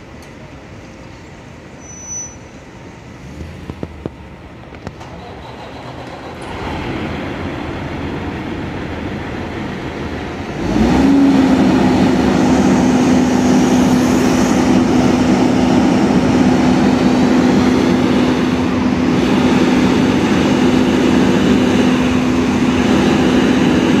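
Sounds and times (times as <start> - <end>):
crane diesel engine revving: 3.0 - 24.0.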